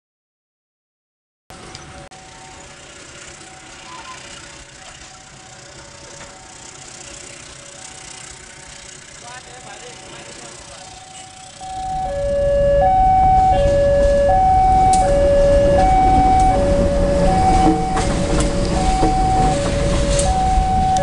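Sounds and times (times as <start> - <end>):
diesel locomotive rumbling: 1.5 - 21.0
two-tone crossing alarm beeping: 1.8 - 21.0.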